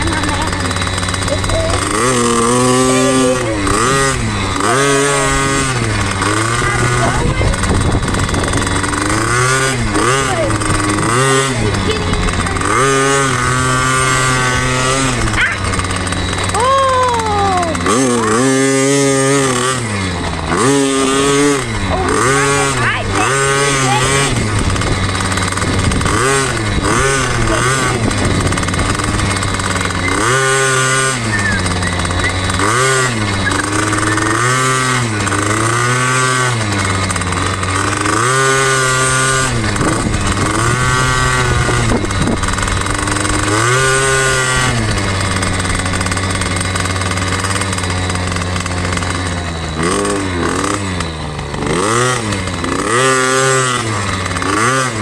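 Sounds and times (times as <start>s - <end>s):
two-stroke motorbike revving: 0.0s - 55.0s.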